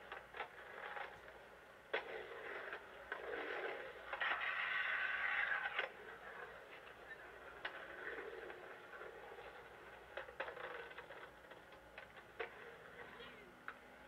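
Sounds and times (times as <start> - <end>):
skateboard clacking on concrete: 0.0 - 13.8
skateboard wheels rolling on concrete: 0.0 - 14.0.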